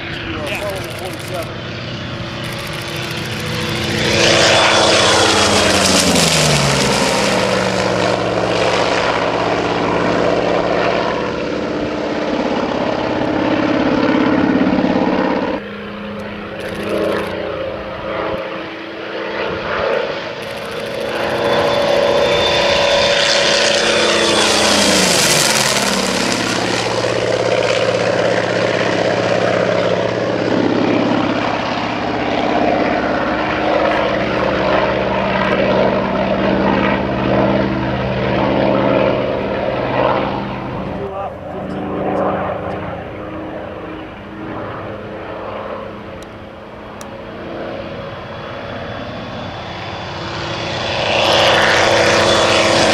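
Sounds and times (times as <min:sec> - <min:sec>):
propeller aircraft droning past: 0:00.0 - 0:52.9.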